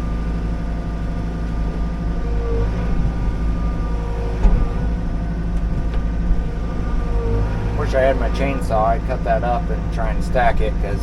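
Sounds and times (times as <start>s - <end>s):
excavator diesel engine running: 0.0s - 11.0s
hydraulics working: 0.0s - 11.0s.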